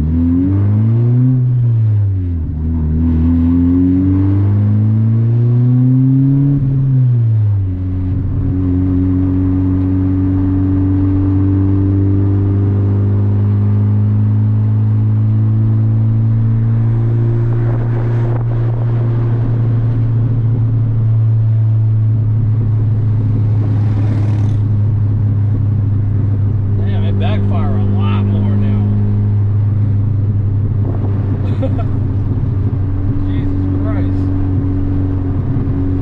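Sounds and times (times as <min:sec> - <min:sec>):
car exhaust droning: 0:00.0 - 0:36.0.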